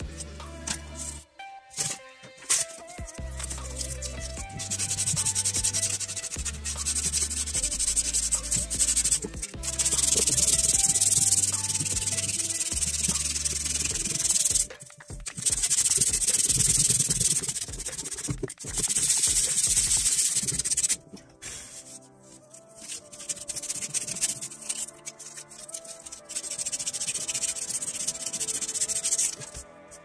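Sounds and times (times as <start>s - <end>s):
quiet music with low bass: 0.0s - 30.0s
sandpaper rubbing on wood: 1.8s - 22.0s, 22.6s - 29.6s.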